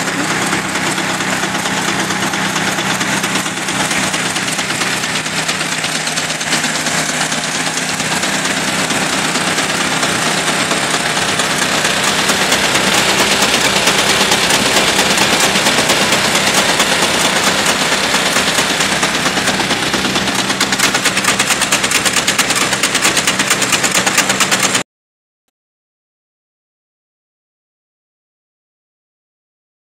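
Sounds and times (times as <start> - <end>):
small engine popping exhaust: 0.0 - 24.8.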